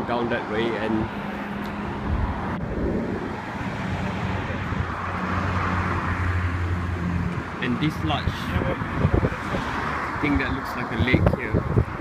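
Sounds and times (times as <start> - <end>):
road traffic rushing past: 0.0 - 12.0.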